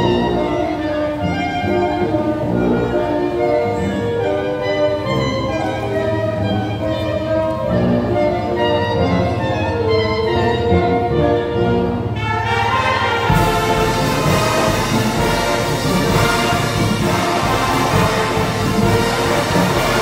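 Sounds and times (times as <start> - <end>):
brass band playing: 0.0 - 20.0.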